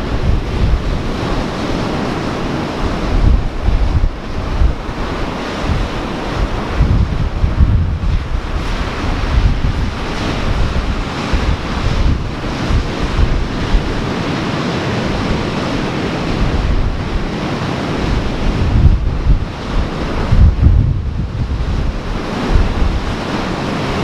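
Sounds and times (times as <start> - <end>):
ocean surf washing in: 0.0 - 24.0
wind buffeting microphone: 0.0 - 24.0.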